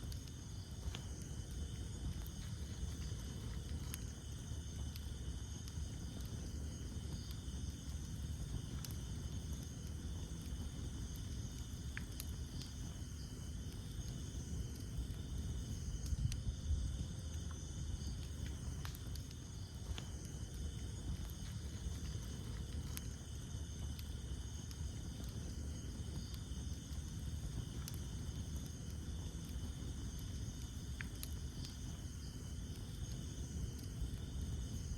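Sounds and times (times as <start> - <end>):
campfire crackling and popping: 0.0 - 34.9
insects chirring: 0.0 - 34.9.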